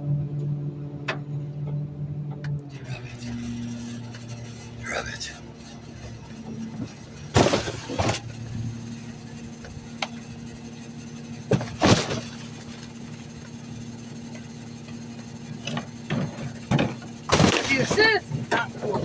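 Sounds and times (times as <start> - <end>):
garbage truck engine running: 0.0 - 19.0
trash crashing: 3.0 - 19.0.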